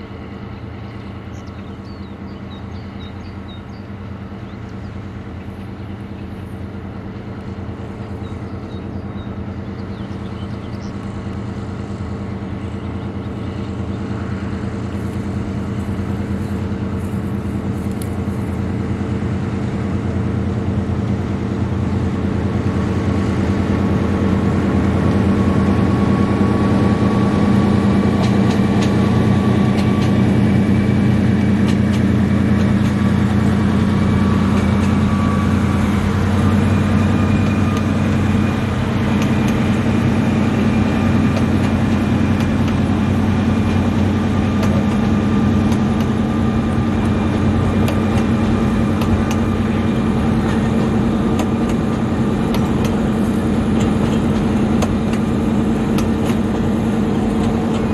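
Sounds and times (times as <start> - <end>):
diesel locomotive engine running: 0.0 - 57.9.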